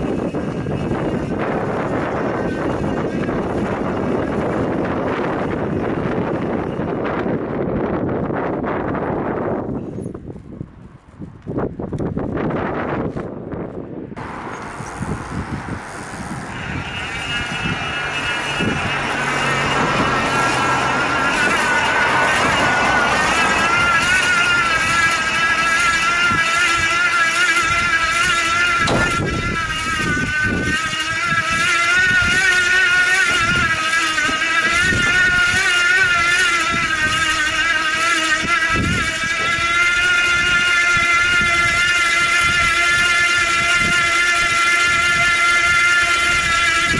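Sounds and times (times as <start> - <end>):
electric motor whining: 0.0 - 13.4, 14.2 - 46.9
tyre and road rumble: 0.0 - 46.9.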